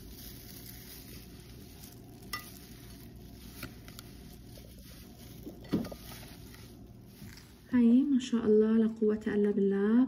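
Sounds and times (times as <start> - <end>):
spatula stirring berries in bowl: 0.0 - 8.2.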